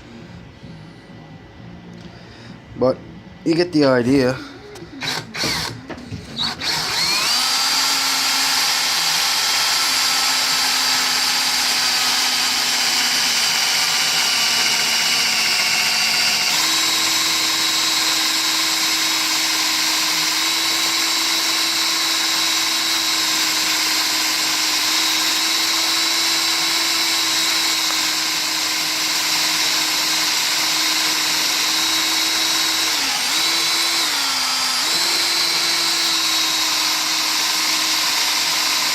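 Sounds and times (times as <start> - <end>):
electric drill motor whining: 5.0 - 38.9.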